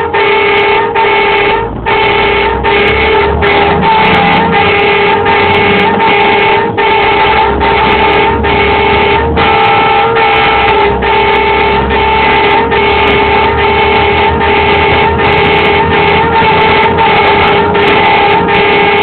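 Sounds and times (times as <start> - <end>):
tow truck warning horn: 0.0 - 19.0.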